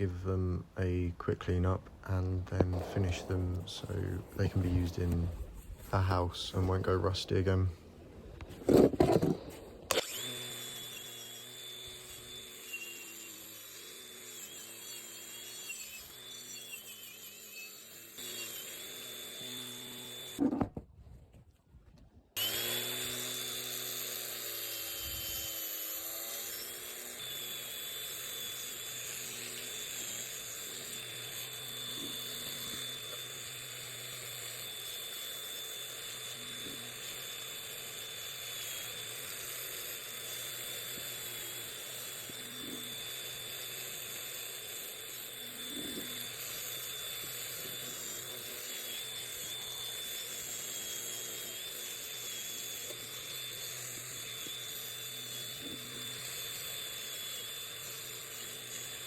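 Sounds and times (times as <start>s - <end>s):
small power tool whining: 0.0s - 20.9s, 22.4s - 59.0s.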